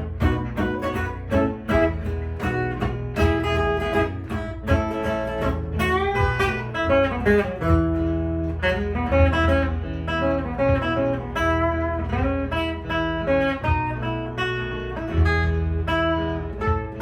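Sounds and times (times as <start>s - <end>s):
guitar melody with slides: 0.0s - 17.0s
looped strummed guitar: 0.0s - 17.0s.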